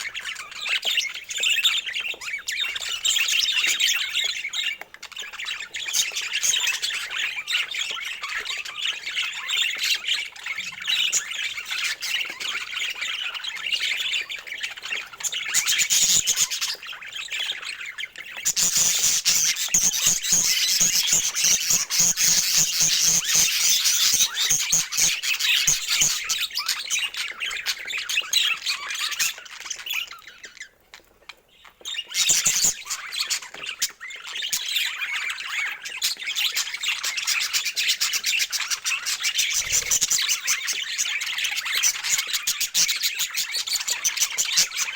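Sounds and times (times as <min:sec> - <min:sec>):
budgerigars chattering and squawking: 0:00.0 - 0:44.9.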